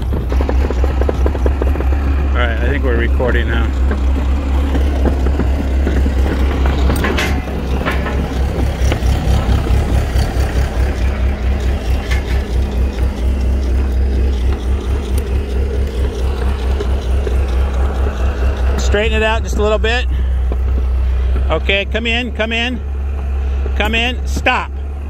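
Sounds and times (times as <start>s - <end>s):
metallic clanks: 0.0s - 21.8s
diesel engine humming: 0.0s - 25.0s.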